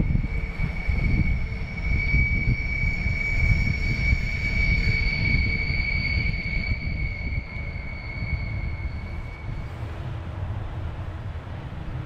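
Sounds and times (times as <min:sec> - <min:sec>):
high-pitched locomotive whine: 0:00.0 - 0:12.0
train wheels rumbling on track: 0:00.0 - 0:12.0.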